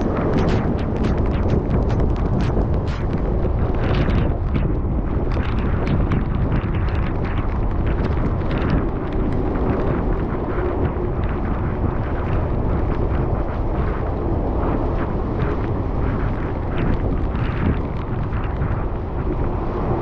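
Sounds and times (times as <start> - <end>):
small crackles: 0.0 - 20.0
wind buffeting microphone: 0.0 - 20.0.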